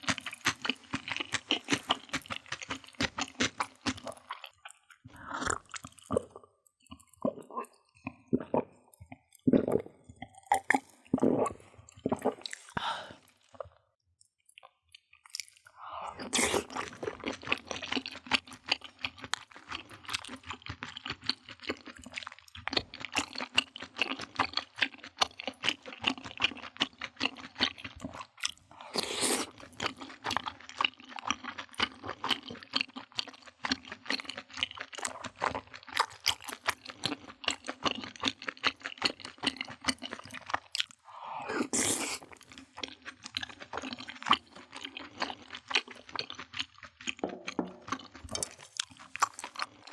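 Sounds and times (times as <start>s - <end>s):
person chewing and crunching food: 0.0s - 49.9s.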